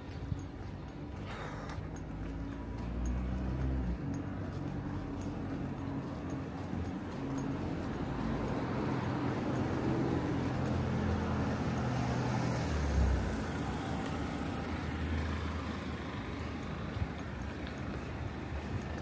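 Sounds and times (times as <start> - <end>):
street traffic hiss: 0.0 - 19.0
vehicle engine running: 0.0 - 19.0.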